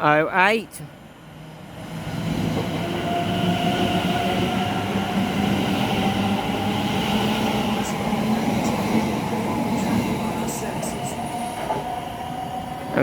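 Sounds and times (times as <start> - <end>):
electric train rumbling: 0.8 - 13.0.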